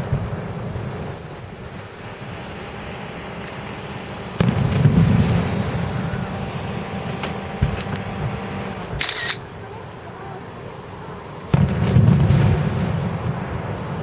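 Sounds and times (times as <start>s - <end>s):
fireworks boom: 0.0s - 9.0s, 11.5s - 13.8s
fireworks cracks: 0.0s - 9.8s, 11.4s - 14.0s
distant rumble: 0.0s - 14.0s.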